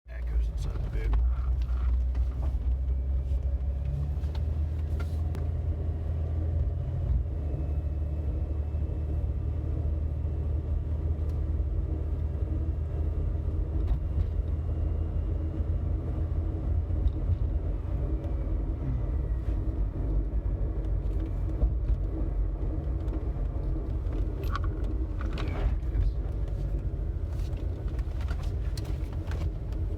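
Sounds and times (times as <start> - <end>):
vehicle driving low rumble: 0.1 - 29.9.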